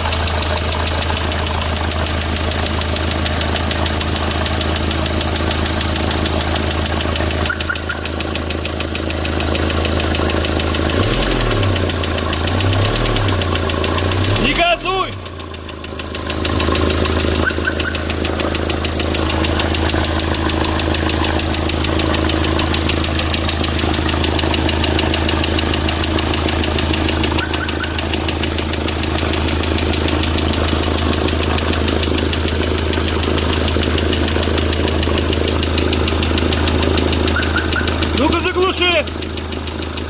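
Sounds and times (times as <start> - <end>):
diesel engine idling with knock: 0.0 - 40.0.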